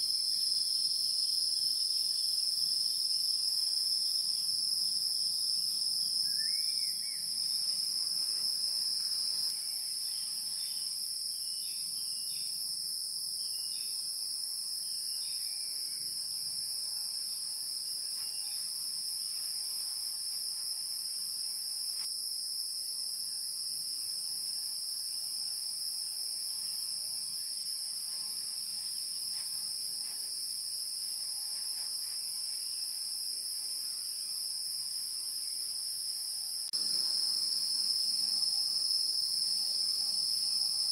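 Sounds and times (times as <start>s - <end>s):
crickets trilling: 0.0s - 22.4s, 23.2s - 40.9s.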